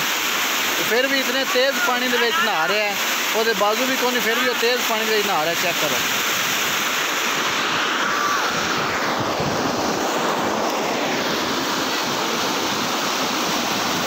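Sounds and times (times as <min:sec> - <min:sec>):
water rushing and churning: 0:00.0 - 0:14.0.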